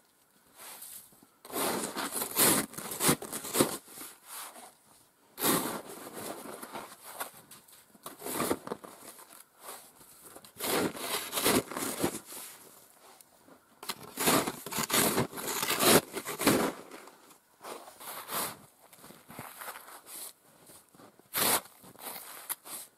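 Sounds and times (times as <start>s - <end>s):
snow shovel scraping snow: 0.6s - 4.8s, 5.4s - 7.4s, 8.1s - 13.2s, 13.8s - 18.6s, 19.3s - 22.9s.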